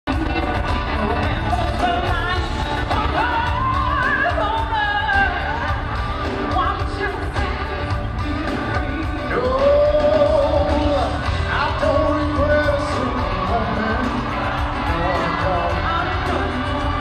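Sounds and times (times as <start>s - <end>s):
band with drums and bass: 0.0s - 17.0s
woman singing: 0.1s - 17.0s.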